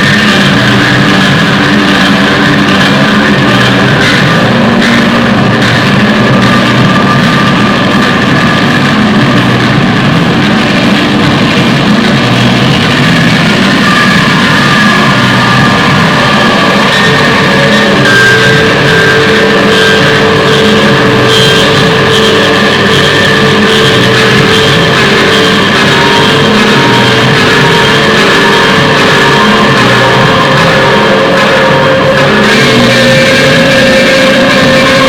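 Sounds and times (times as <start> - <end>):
rock music with electric guitar: 0.0 - 35.0.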